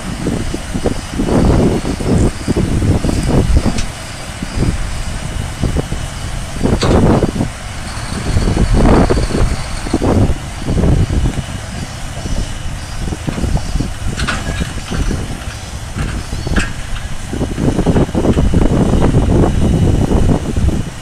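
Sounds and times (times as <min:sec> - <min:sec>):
tractor diesel engine rumble: 0:00.0 - 0:21.0.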